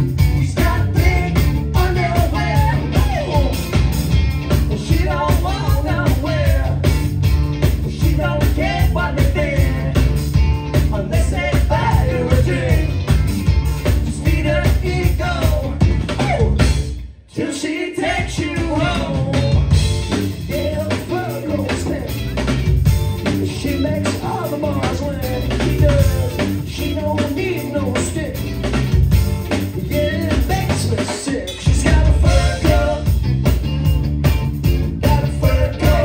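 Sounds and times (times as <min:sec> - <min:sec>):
man singing lead vocal: 0:00.0 - 0:03.9, 0:04.6 - 0:07.0, 0:07.8 - 0:13.2, 0:13.8 - 0:22.3, 0:23.2 - 0:28.6, 0:29.5 - 0:33.4, 0:35.0 - 0:36.0
electric guitar: 0:00.0 - 0:17.2, 0:18.2 - 0:36.0
electric bass: 0:00.0 - 0:17.3, 0:18.0 - 0:36.0
drum kit: 0:00.0 - 0:36.0.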